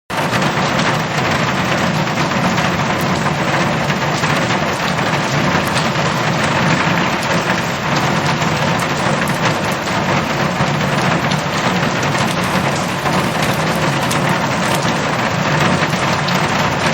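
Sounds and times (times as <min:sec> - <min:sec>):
heavy rain on metal roof: 0:00.1 - 0:16.9.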